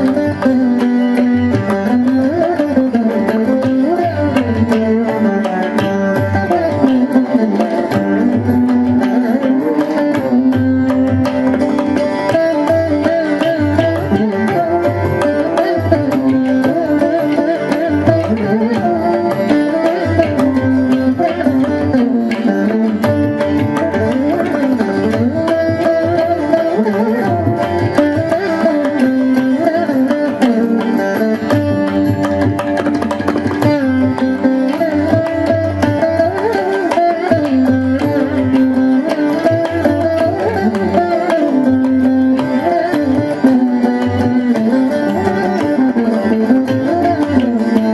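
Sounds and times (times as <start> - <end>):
hand drum percussion: 0.0 - 47.9
veena melody over drone: 0.0 - 47.9.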